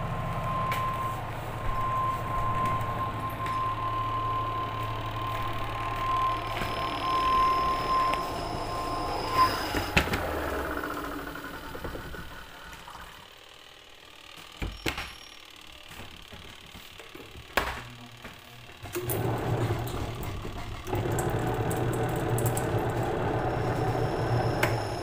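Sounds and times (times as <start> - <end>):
washing machine spin hum: 0.0 - 25.0.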